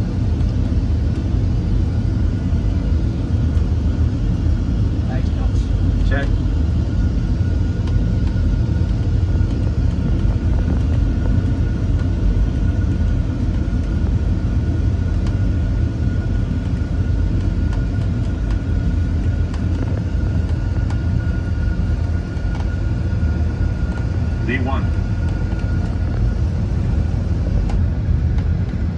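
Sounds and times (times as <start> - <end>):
jet engines rumbling: 0.0 - 28.9
thin steady whine: 0.0 - 28.9.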